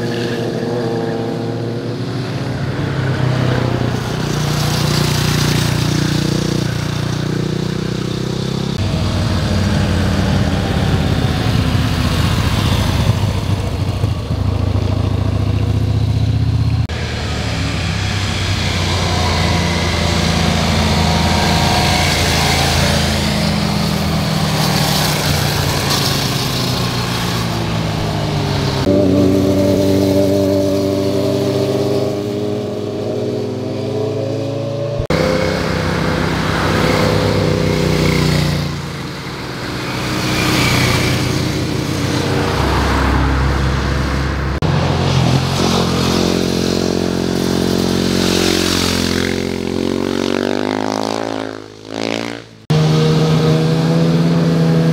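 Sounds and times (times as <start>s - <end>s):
motorcycles revving past: 0.0s - 54.9s.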